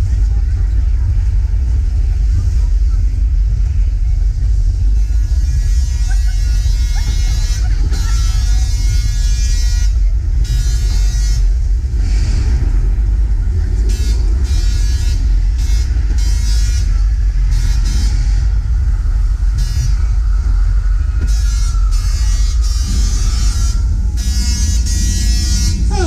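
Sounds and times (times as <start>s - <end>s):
heavy low rumble: 0.0s - 26.0s
loud blaring horn tones: 4.7s - 26.0s.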